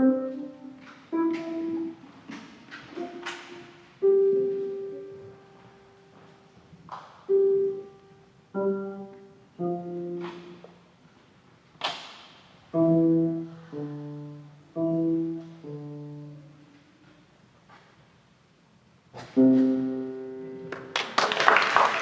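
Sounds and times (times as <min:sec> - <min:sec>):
slow acoustic piano notes and chords: 0:00.0 - 0:11.4, 0:12.6 - 0:17.3, 0:19.1 - 0:21.0.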